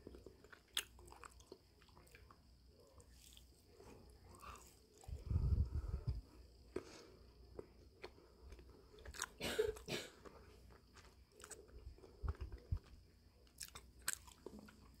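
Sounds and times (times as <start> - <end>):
chewing crisp cookie: 0.0 - 15.0.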